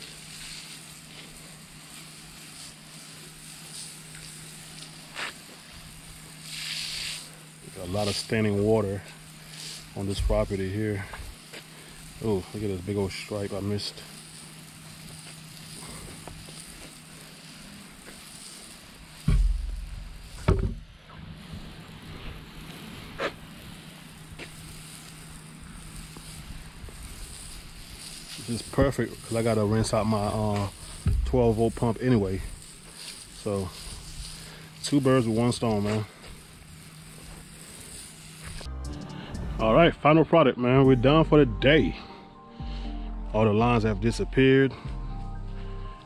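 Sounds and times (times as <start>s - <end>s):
spray wand hissing: 0.0s - 20.5s, 21.3s - 39.4s
machine hum: 0.0s - 46.0s.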